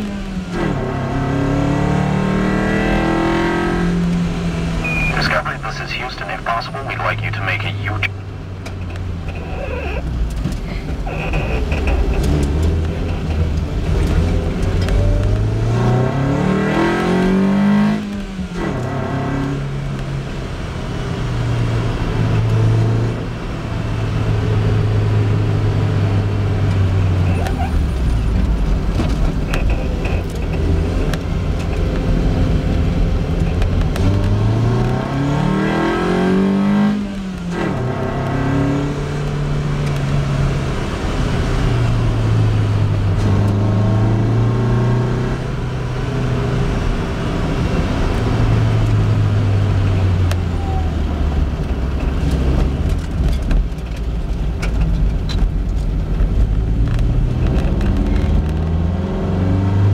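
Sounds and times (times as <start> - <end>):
car engine pulling uphill: 0.0 - 59.9.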